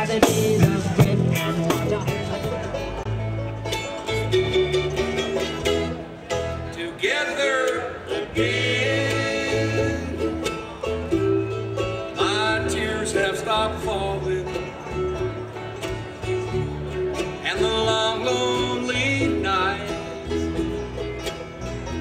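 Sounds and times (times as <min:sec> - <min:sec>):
bass line: 0:00.0 - 0:07.0, 0:08.2 - 0:22.0
acoustic guitar picking: 0:00.0 - 0:22.0
banjo: 0:00.0 - 0:22.0
mandolin: 0:00.0 - 0:22.0.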